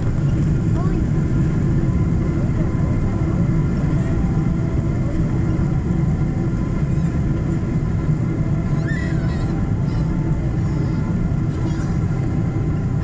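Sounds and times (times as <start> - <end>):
faint whining tones: 0.0 - 13.0
low rumble of engines and wheels: 0.0 - 13.0.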